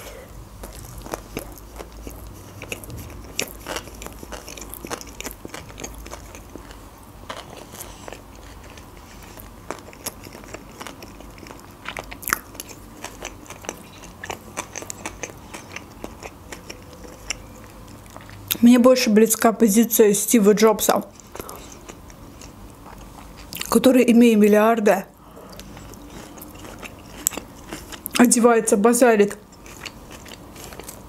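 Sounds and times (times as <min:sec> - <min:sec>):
chewing wet mouth sounds: 0:00.6 - 0:18.6, 0:21.1 - 0:23.8, 0:25.2 - 0:28.3, 0:29.3 - 0:31.0.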